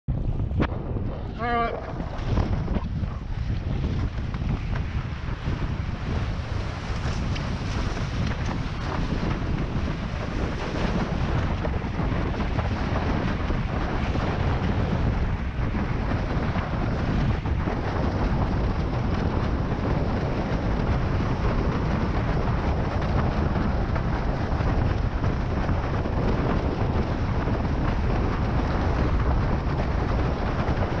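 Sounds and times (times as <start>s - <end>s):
wind buffeting microphone: 0.1s - 31.0s.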